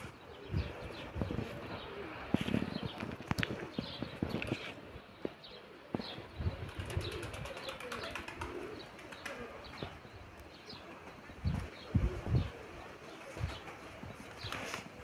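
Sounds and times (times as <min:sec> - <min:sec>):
pigeons cooing: 0:00.0 - 0:15.0
small birds chirping: 0:00.0 - 0:15.0.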